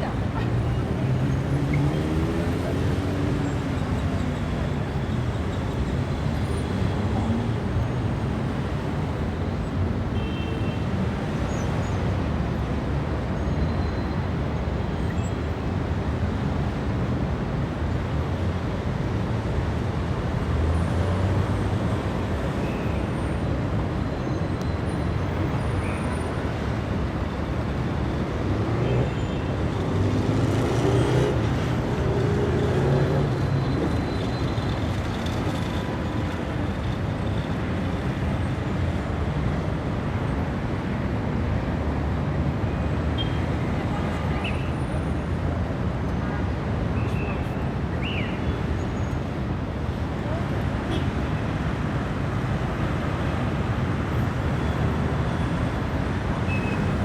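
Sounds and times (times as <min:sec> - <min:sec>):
dense city traffic: 0:00.0 - 0:57.0.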